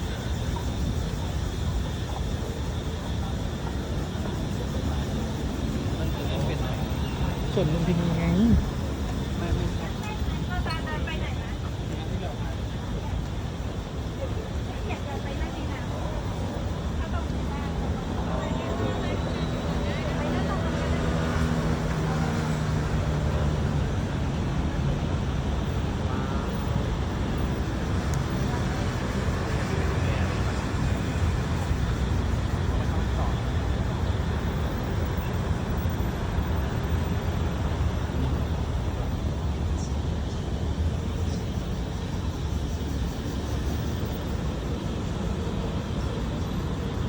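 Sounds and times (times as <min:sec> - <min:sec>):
city traffic rumble: 0:00.0 - 0:47.0.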